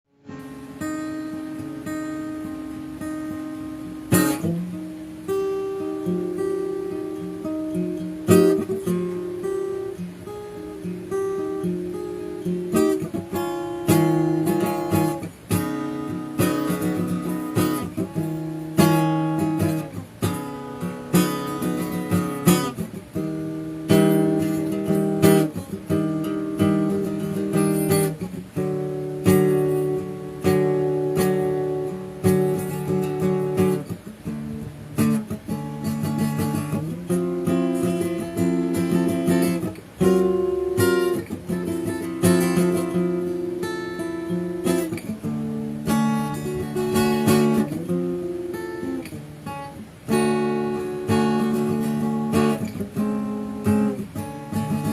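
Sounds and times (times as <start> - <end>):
guitar strumming chords: 0.1 - 54.9.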